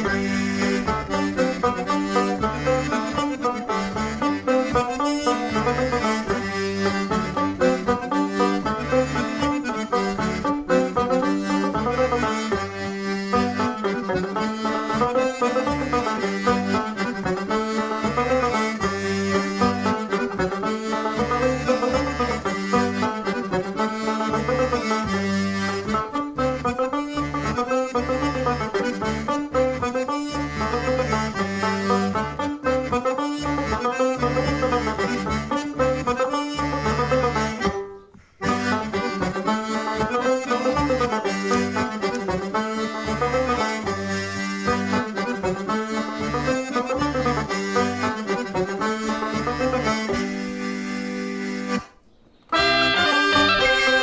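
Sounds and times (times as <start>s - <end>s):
banjo accompaniment: 0.0s - 54.0s
button accordion dance tune: 0.0s - 54.0s.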